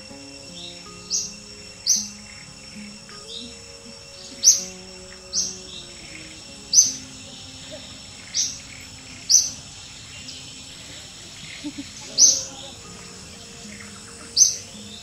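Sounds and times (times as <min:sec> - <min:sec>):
bird chirping: 0:00.0 - 0:15.0
soft background music: 0:00.0 - 0:15.0.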